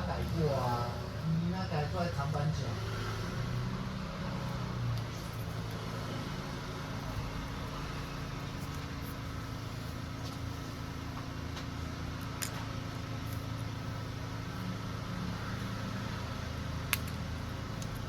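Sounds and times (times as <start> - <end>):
air conditioner hum: 0.0 - 18.0.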